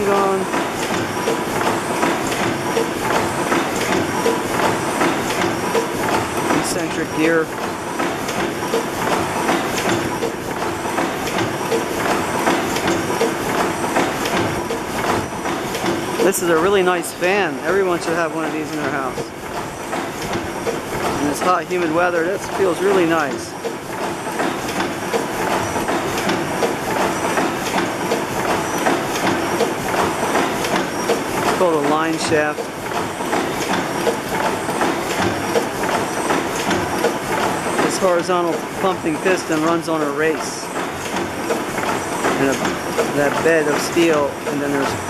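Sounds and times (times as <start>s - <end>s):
gas engine clattering: 0.0s - 45.0s
regular engine clicks: 0.0s - 45.0s.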